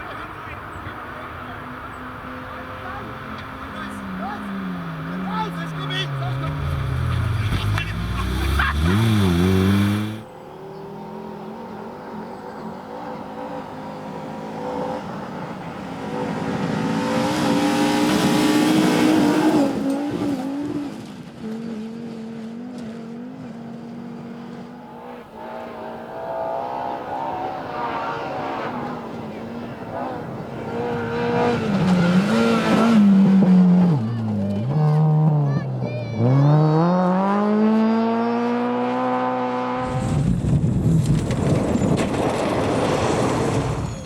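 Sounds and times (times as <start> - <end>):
rally car engines at full throttle: 0.0 - 44.0.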